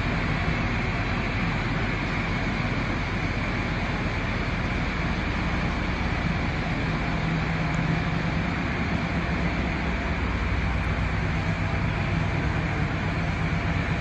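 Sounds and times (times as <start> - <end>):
industrial machinery hum: 0.0 - 14.0.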